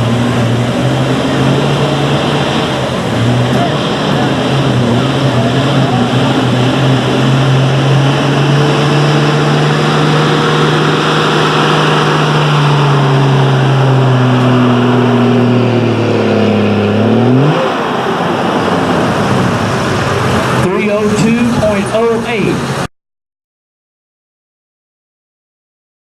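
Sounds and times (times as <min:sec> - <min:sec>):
diesel truck engine under load: 0:00.0 - 0:22.9.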